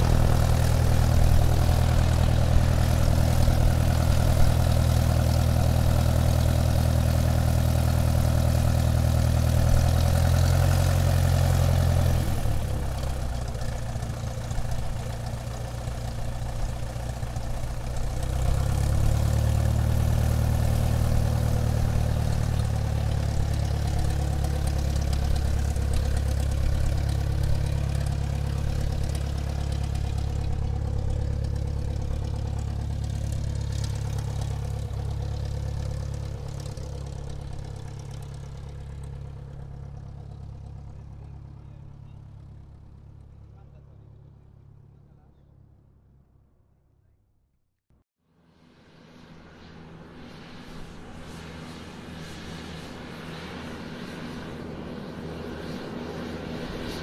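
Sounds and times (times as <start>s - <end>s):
airplane engine humming: 0.0s - 45.5s, 48.6s - 57.0s.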